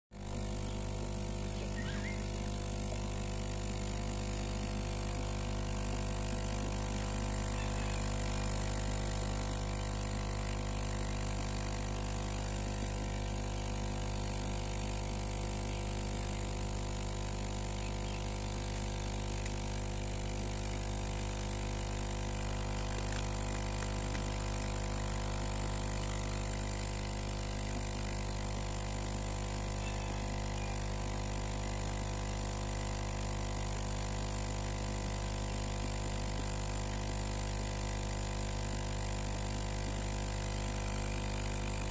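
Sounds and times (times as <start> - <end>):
machine hum: 0.2 - 41.9.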